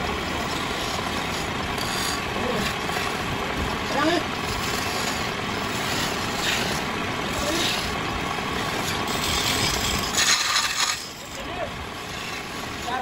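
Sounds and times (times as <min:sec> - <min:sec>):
chisel cutting hiss: 0:00.0 - 0:13.0
wood lathe motor: 0:00.0 - 0:13.0.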